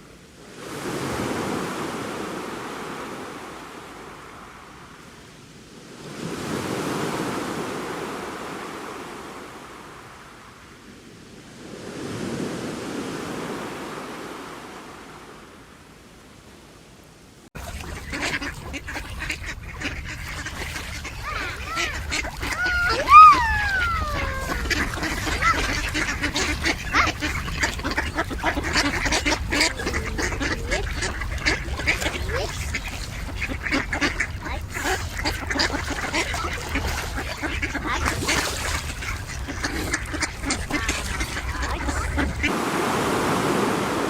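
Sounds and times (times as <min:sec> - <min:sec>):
waves breaking on shore: 0:00.0 - 0:44.0.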